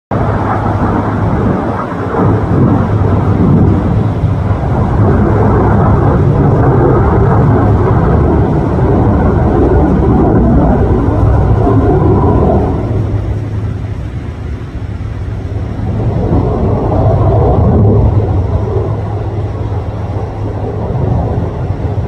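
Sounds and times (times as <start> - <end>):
fighter jet flying overhead: 0.1 - 22.0.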